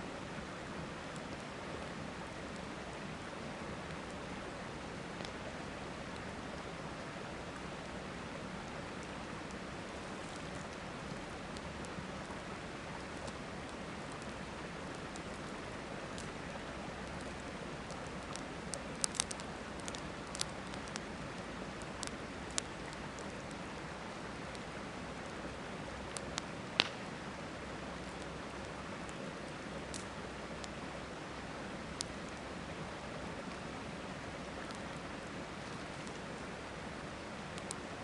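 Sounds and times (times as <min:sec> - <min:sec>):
campfire crackling and popping: 0:00.2 - 0:38.0.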